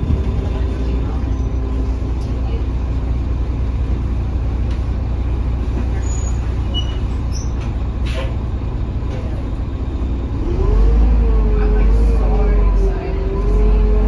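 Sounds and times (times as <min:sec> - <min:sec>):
bus diesel engine idling: 0:00.0 - 0:14.0.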